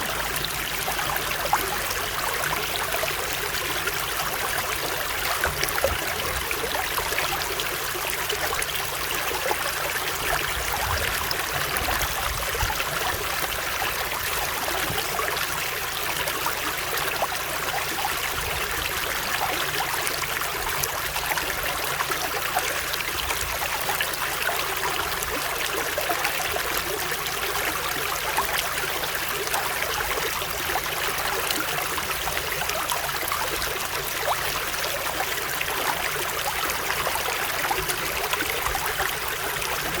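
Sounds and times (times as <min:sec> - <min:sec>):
stream babbling over stones: 0:00.0 - 0:40.0.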